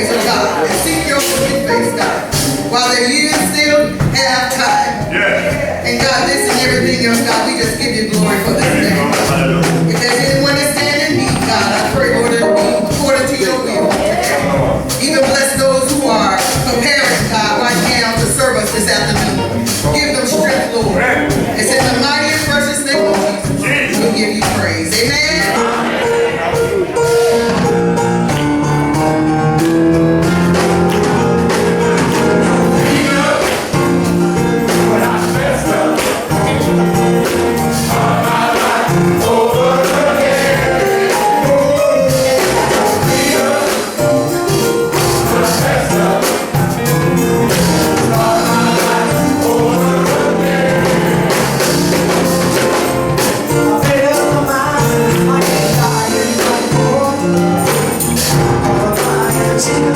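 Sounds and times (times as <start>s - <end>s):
instrumental accompaniment: 0.0s - 59.9s
male chorus singing gospel: 0.0s - 59.9s.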